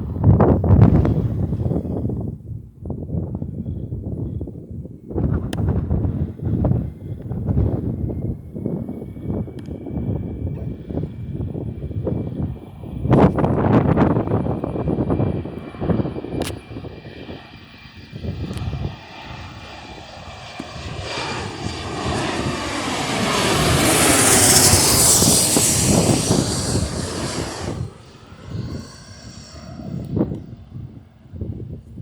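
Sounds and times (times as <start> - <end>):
jet airliner roaring past: 6.0 - 32.0.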